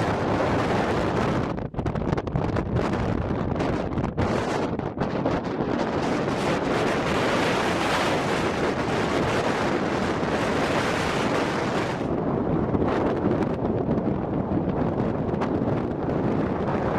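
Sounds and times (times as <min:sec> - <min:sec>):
blizzard wind buffeting microphone: 0:00.0 - 0:16.9.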